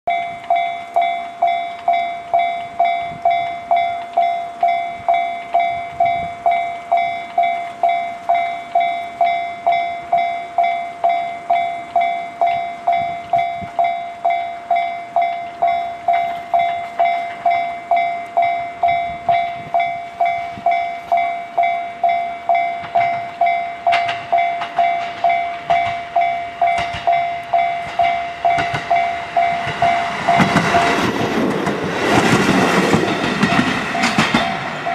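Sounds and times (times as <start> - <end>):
level crossing bell ringing: 0.1 - 31.0
approaching railcar rumble: 0.1 - 34.9.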